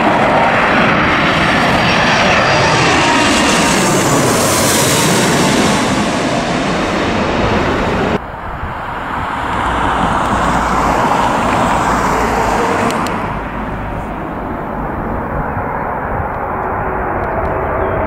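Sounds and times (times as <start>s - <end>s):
airliner rumble approaching: 0.0s - 18.0s
jet airliner rushing overhead: 0.0s - 18.0s.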